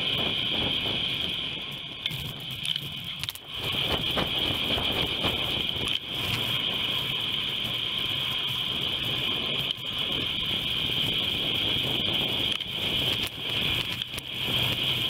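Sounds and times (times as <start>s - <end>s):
high-pitched whine: 0.0s - 15.0s
rumbling road noise: 0.0s - 15.0s.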